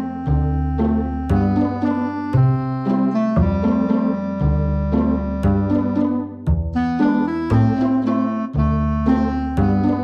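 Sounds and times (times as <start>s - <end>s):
electronic keyboard tune with bass: 0.0s - 10.0s.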